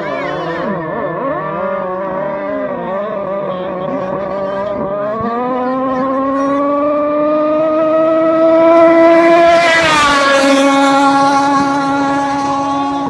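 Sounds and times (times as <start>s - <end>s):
racing boat engine: 0.0s - 13.0s.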